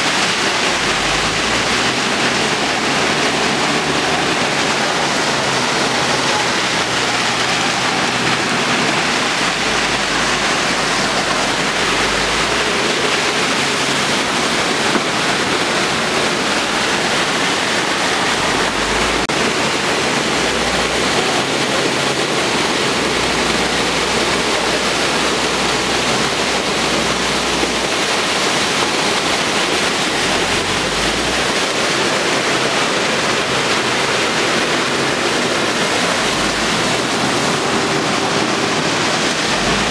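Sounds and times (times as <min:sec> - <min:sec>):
floodwater rushing: 0:00.0 - 0:39.9
rain falling: 0:00.0 - 0:39.9.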